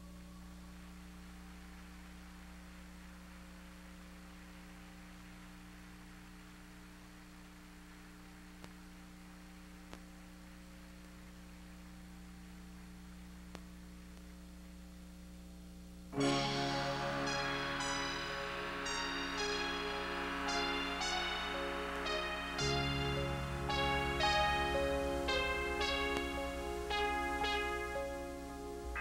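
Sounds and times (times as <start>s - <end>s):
electrical mains hum: 0.0s - 29.0s
low hiss: 0.0s - 29.0s.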